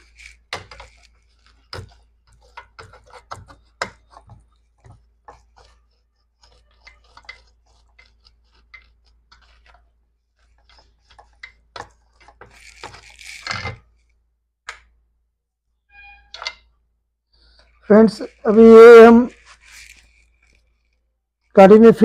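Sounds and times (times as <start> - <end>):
scraping rustle: 0.0 - 14.2, 17.3 - 21.6.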